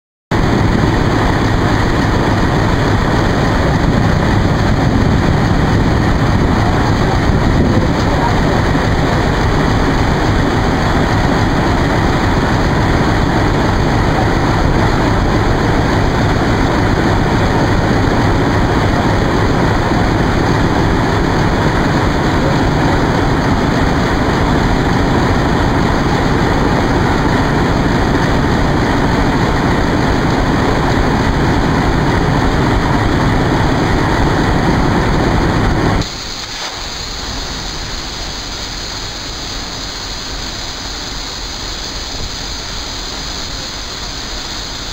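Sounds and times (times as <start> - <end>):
diesel locomotive engine rumbling: 0.3 - 44.9.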